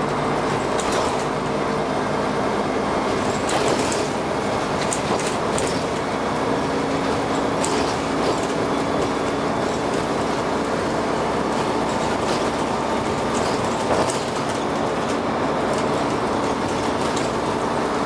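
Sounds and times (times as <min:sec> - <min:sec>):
bus body rattles: 0:00.0 - 0:18.0
bus engine and drivetrain noise: 0:00.0 - 0:18.0.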